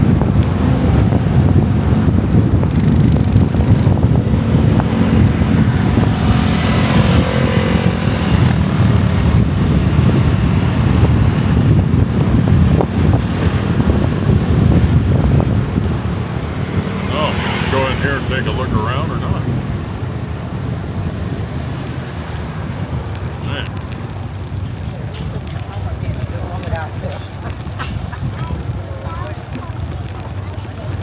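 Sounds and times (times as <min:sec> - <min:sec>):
motorbike engine rumble: 0:00.0 - 0:31.0
road traffic: 0:00.0 - 0:31.0
wind buffeting microphone: 0:00.0 - 0:31.0.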